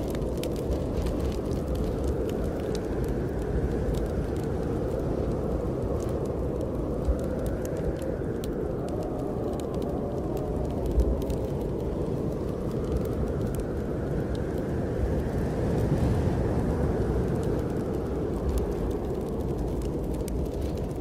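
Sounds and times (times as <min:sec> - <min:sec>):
snowstorm wind rushing: 0:00.0 - 0:21.0
wood fire crackling: 0:00.0 - 0:21.0.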